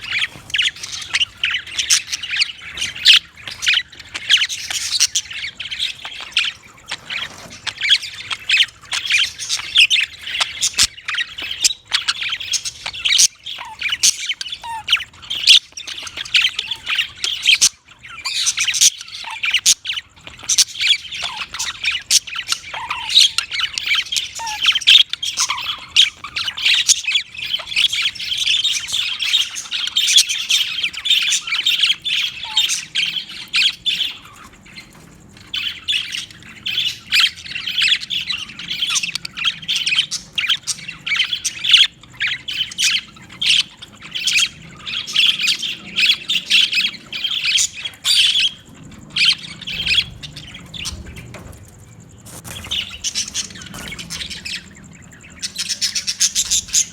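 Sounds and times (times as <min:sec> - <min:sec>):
budgerigars chattering: 0:00.0 - 0:56.9.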